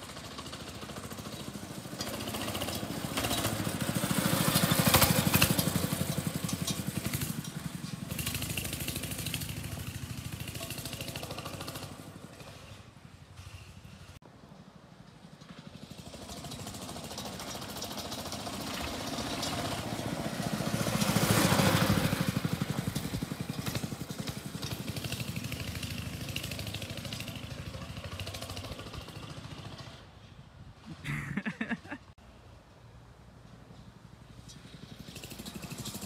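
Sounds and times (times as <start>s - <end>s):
motorbike engine passing by: 0.0s - 14.2s, 15.4s - 30.2s, 34.3s - 36.0s.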